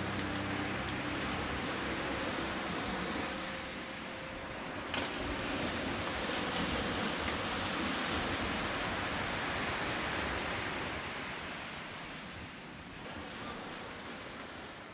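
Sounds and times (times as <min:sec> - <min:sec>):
gentle surf on a beach: 0:00.0 - 0:14.9.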